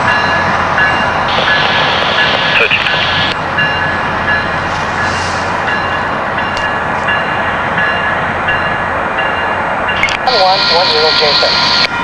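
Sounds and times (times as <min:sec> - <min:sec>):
train running on rails: 0:00.0 - 0:12.0.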